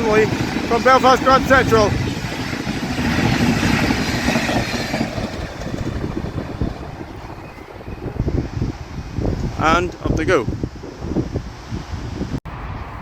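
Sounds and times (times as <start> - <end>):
passenger train rumbling on rails: 0.0 - 13.0.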